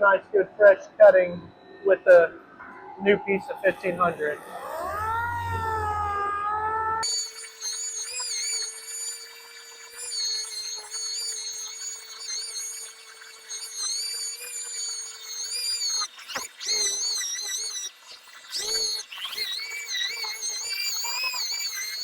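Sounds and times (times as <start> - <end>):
sander whining: 1.4 - 22.0.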